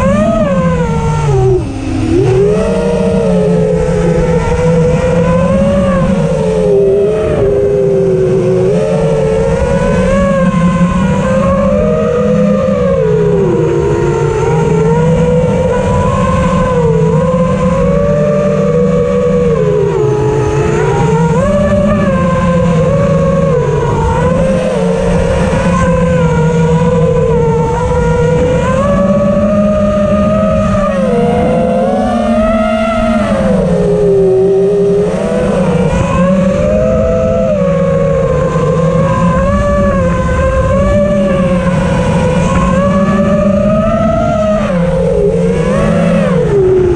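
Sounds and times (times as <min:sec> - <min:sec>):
drone motors whining: 0:00.0 - 0:46.9.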